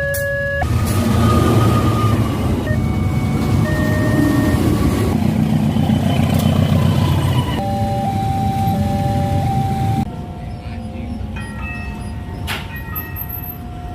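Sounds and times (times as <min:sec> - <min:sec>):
level crossing warning alarm: 0:00.0 - 0:13.9
freight train rumbling past: 0:00.6 - 0:13.9.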